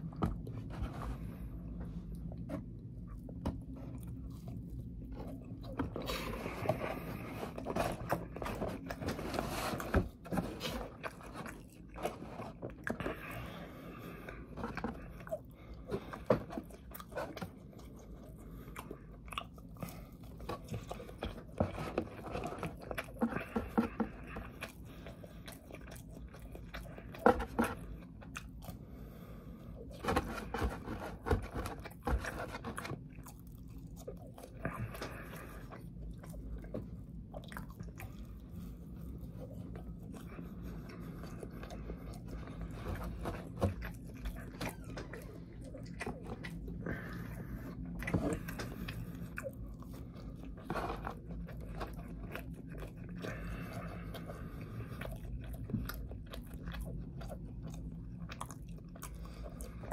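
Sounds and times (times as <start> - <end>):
person chewing and biting food: 0.0 - 59.9.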